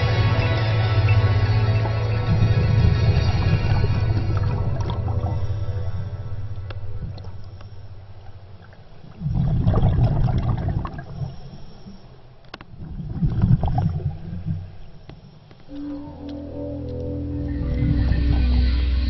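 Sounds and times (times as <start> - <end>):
underwater breath bubbling: 2.8 - 19.0.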